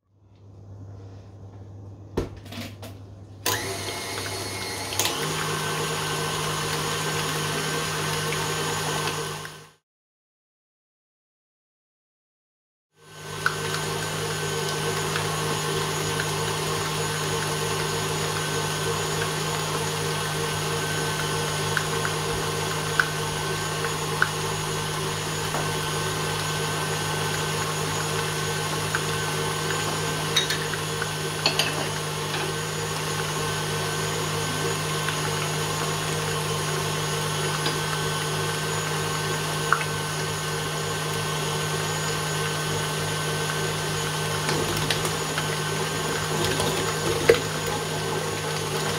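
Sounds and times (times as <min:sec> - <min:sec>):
stand mixer motor humming: 0:03.4 - 0:09.8, 0:13.0 - 0:48.9.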